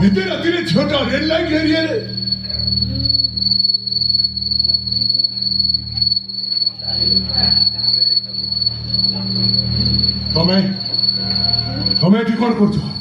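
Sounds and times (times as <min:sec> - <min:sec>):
crickets trilling: 0:00.0 - 0:13.0
low steady hum: 0:00.0 - 0:13.0.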